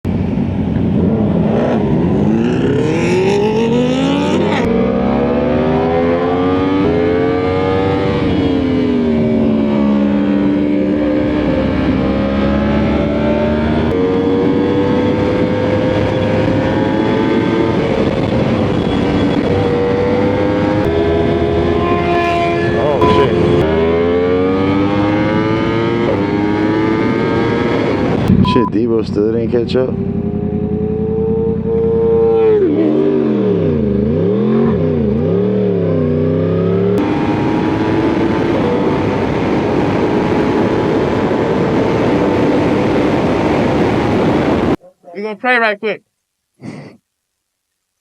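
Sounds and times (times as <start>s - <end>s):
motorcycle engine accelerating: 0.2s - 44.8s.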